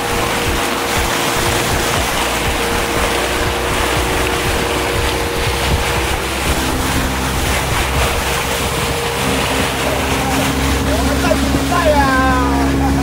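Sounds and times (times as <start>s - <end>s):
motorboat engine running: 0.0s - 13.0s
water rushing past hull: 0.0s - 13.0s
wind buffeting microphone: 0.0s - 13.0s.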